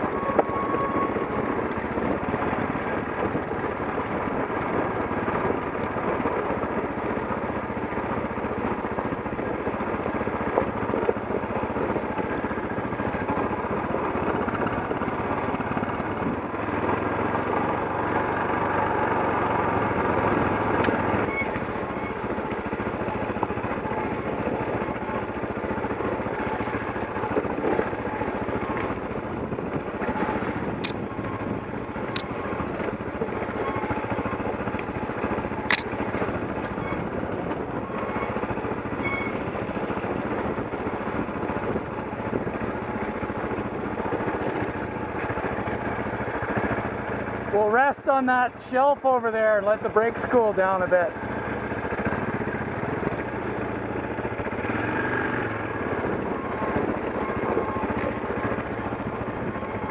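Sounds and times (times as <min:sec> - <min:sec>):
motorcycle engine at low revs: 0:00.0 - 0:38.4, 0:39.0 - 0:47.5, 0:49.8 - 0:59.9.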